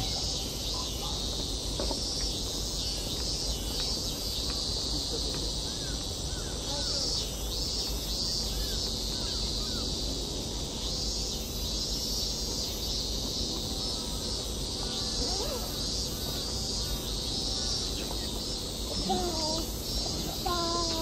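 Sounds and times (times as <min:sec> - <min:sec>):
cicadas buzzing: 0:00.0 - 0:21.0
faint scattered calls and voices: 0:00.0 - 0:21.0.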